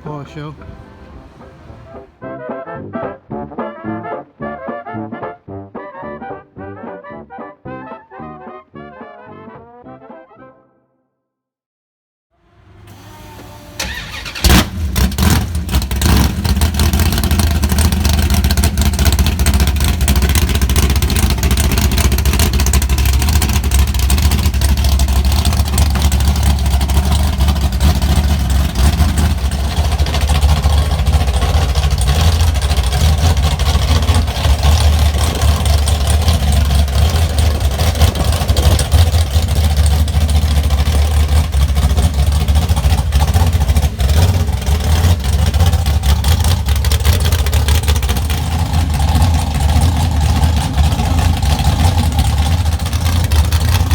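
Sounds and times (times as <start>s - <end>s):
car engine starting and idling: 0.0s - 2.3s, 12.4s - 53.9s.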